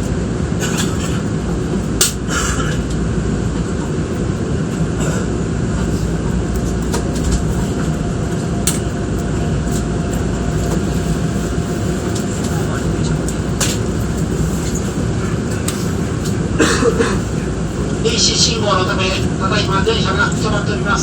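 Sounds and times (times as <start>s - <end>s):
train car rumble: 0.0s - 21.0s.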